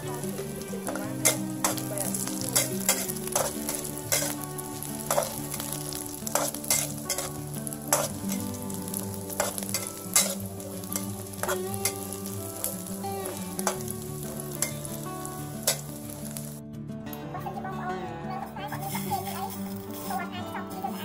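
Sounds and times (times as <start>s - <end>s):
food sizzling in hot oil: 0.0s - 16.6s, 18.7s - 21.0s
metal spatula scraping wok: 0.1s - 16.6s, 18.8s - 20.2s.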